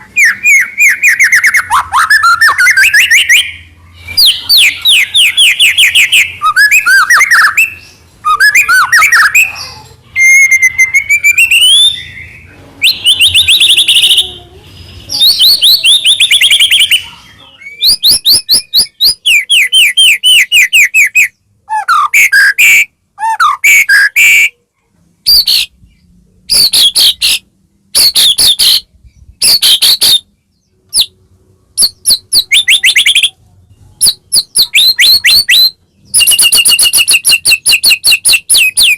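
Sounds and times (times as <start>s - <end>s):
songbird singing chirps and whistles: 0.0s - 38.9s.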